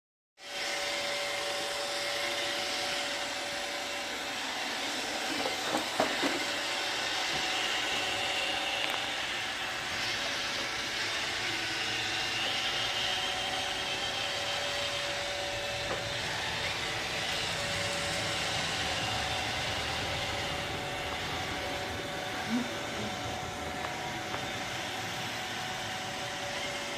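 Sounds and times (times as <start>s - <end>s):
robot vacuum whirring: 0.4s - 26.9s.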